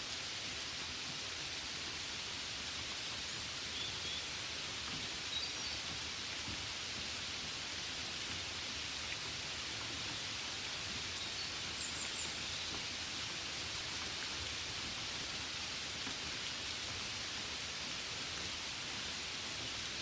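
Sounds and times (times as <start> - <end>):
steady gentle rain: 0.0 - 20.0.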